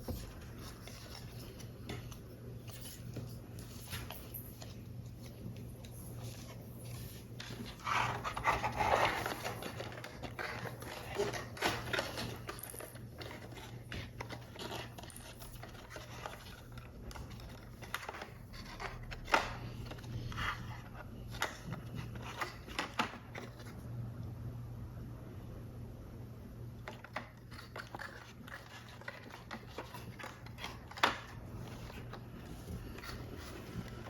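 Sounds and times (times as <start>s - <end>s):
paper and card rustling: 0.0s - 23.8s, 26.8s - 34.0s.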